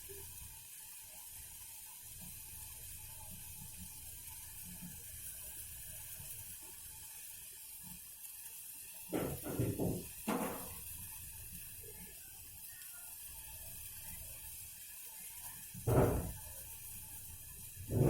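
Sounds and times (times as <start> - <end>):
faint hiss: 0.0 - 18.0
pan boiling and bubbling: 0.0 - 18.0.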